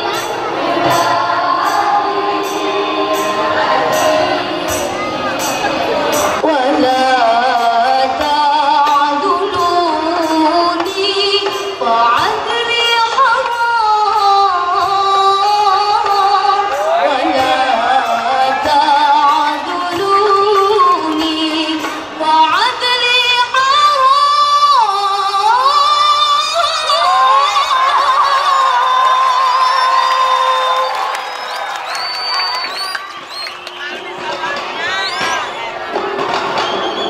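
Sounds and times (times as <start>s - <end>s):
person singing through speakers: 0.0s - 31.0s.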